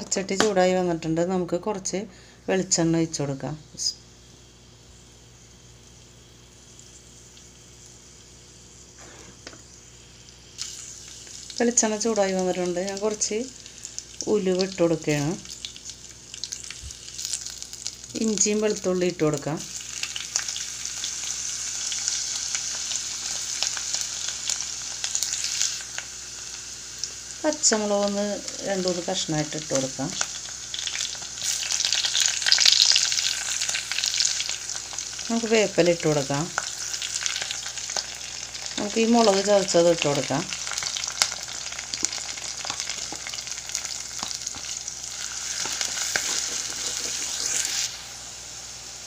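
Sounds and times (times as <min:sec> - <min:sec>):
ginger and garlic sizzling in oil: 0:02.5 - 0:49.0.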